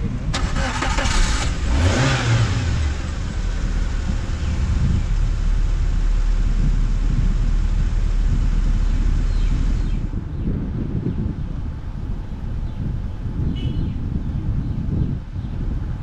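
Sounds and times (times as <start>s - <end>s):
car engine: 0.0s - 13.4s
road noise: 0.0s - 16.0s
wind buffeting microphone: 0.0s - 16.0s.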